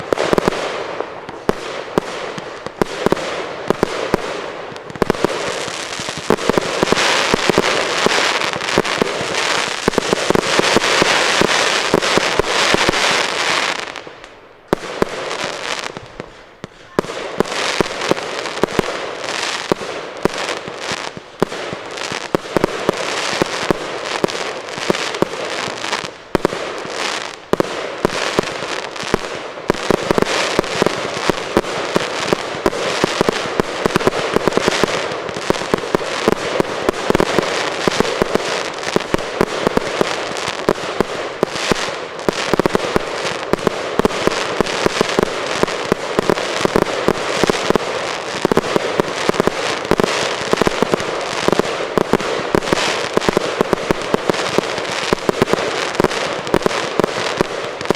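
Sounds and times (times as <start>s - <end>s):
fireworks popping and crackling: 0.0s - 57.9s.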